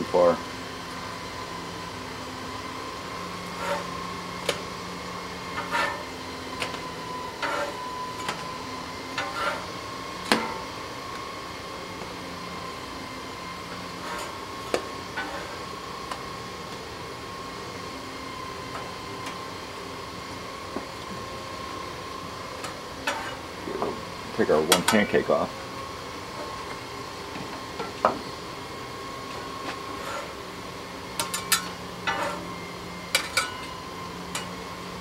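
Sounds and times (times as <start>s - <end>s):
griddle burner hum: 0.0s - 35.0s.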